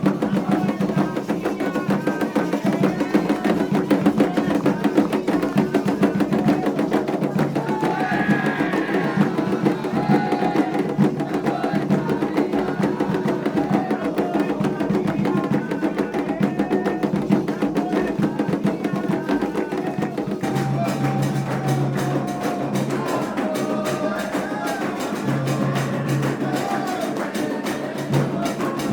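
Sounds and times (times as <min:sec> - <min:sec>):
hand drums fast rhythm: 0:00.0 - 0:28.9
voices singing a chant: 0:00.0 - 0:28.9.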